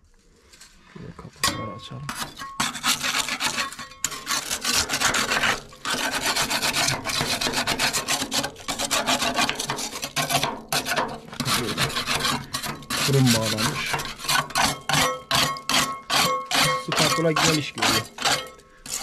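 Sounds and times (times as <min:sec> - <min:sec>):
spatula scraping soot off metal: 0:01.4 - 0:19.0.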